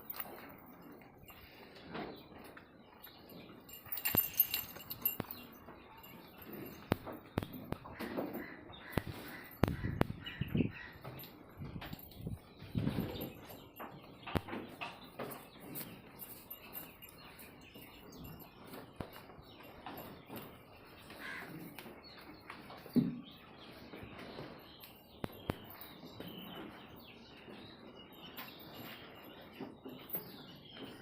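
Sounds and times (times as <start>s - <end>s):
low farmyard background: 0.0s - 31.0s
small birds chirping: 0.0s - 31.0s.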